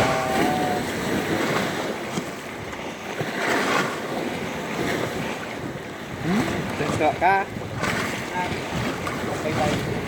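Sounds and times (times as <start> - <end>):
sea waves surging: 0.0 - 10.0
wind on microphone: 0.0 - 10.0.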